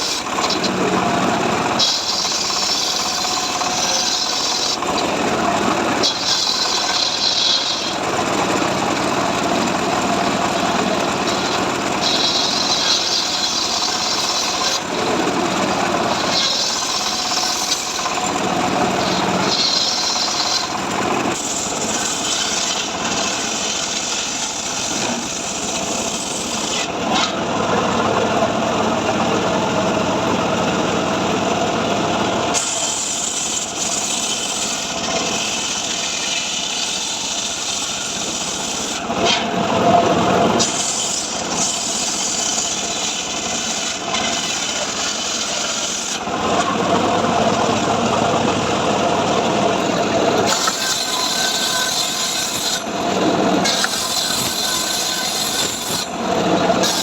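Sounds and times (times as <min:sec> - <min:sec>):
engine-driven saw cutting wood: 0:00.0 - 0:57.0.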